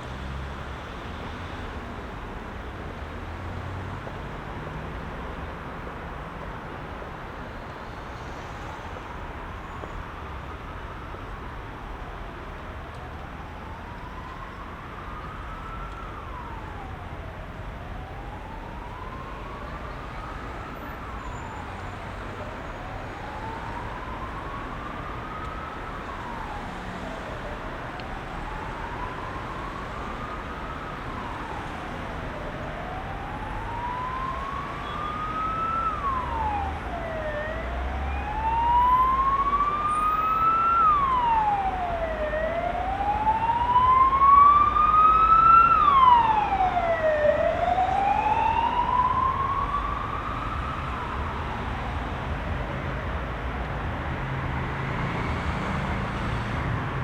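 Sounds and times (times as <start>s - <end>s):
heavy road traffic: 0.0s - 57.0s
emergency vehicle siren wailing: 7.8s - 57.0s.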